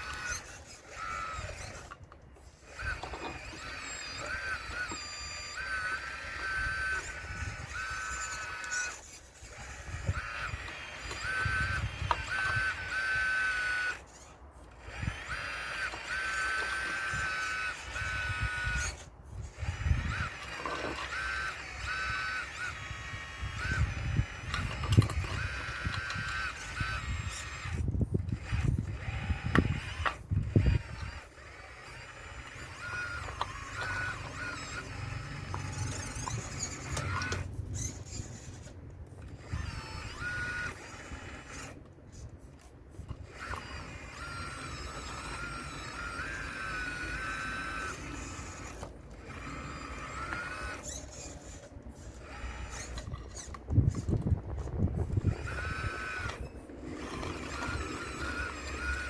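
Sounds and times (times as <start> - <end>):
electric motors whining: 0.0 - 59.0.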